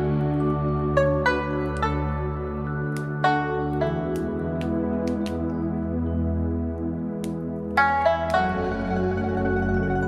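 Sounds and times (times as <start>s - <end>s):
fireplace fire crackle: 0.0s - 9.5s.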